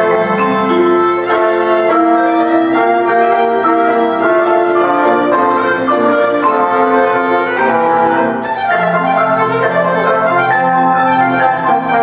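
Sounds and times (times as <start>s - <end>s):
chamber ensemble playing: 0.0s - 12.0s
violin melody: 0.0s - 12.0s.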